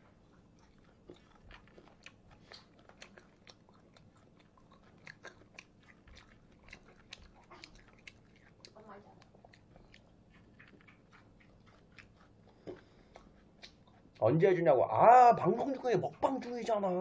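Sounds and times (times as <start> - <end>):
mouth chewing food: 0.0 - 17.0.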